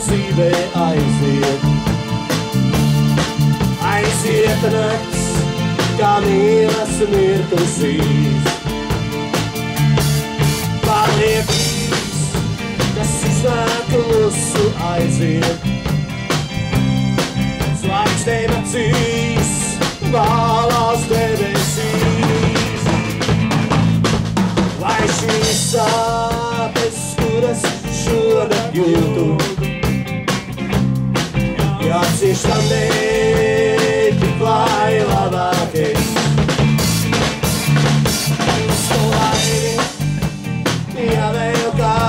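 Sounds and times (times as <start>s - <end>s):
live band playing: 0.0s - 42.0s.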